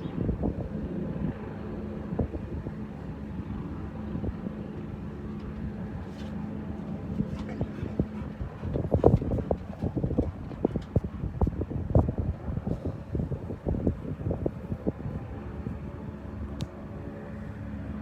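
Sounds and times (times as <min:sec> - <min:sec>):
wind buffeting microphone: 0:00.0 - 0:18.0
engine humming: 0:01.6 - 0:18.0.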